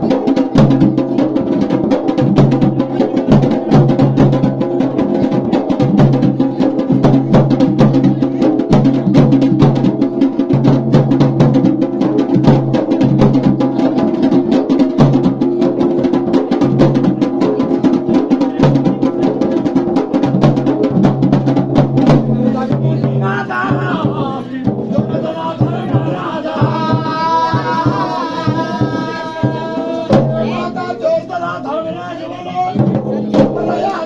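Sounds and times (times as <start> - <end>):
rapid dense drumming: 0.0 - 34.0.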